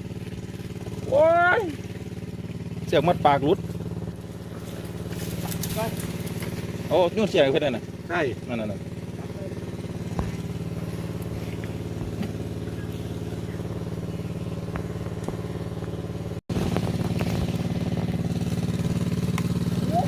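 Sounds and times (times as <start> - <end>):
small engine running steadily: 0.0 - 20.0.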